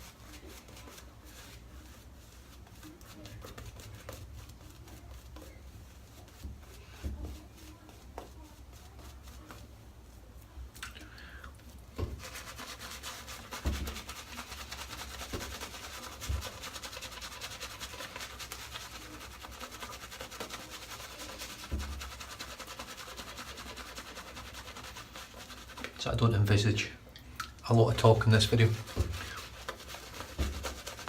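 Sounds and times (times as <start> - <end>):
shaving brush scratchy rubbing: 0.0 - 9.8, 12.0 - 26.9, 27.7 - 31.0.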